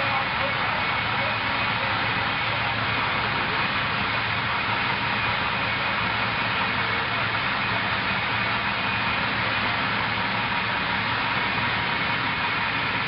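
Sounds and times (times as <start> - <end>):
steady drone with high whine: 0.0 - 13.0
truck engine idling: 0.0 - 13.0.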